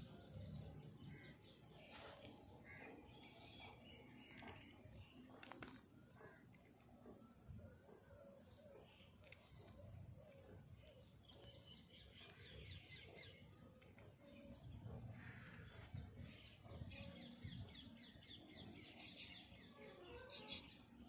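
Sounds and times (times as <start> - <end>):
small birds chirping trills: 0.0 - 21.0.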